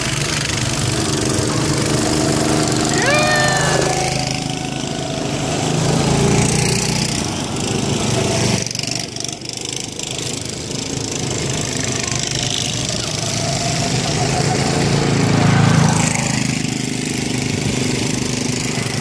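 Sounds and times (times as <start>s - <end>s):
go-kart engines running: 0.0s - 19.0s.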